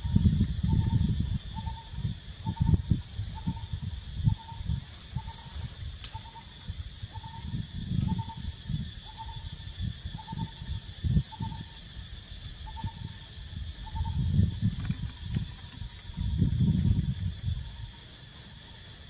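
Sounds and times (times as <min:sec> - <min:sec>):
insects droning: 0:00.0 - 0:19.0
wind rumble on microphone: 0:00.0 - 0:19.0.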